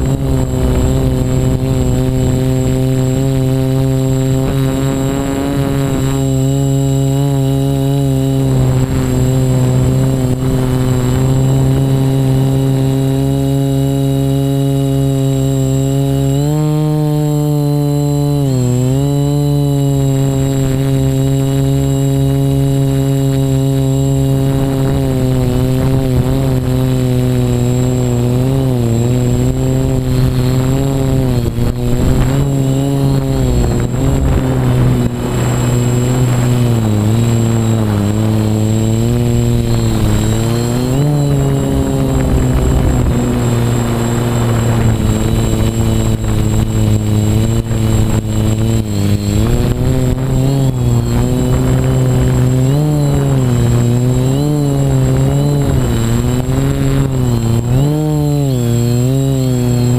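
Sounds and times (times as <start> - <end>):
quadcopter propellers buzzing: 0.0 - 59.9.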